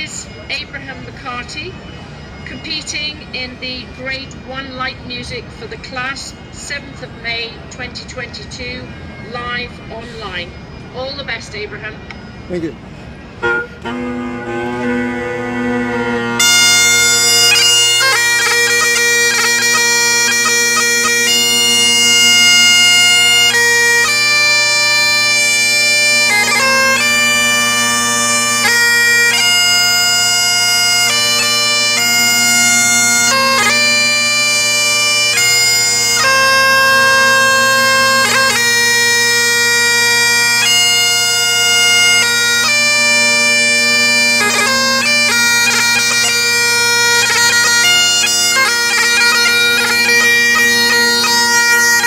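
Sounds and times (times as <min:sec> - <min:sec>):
bagpipe chanter melody: 0:00.0 - 0:52.0
bagpipe drones: 0:00.0 - 0:52.0.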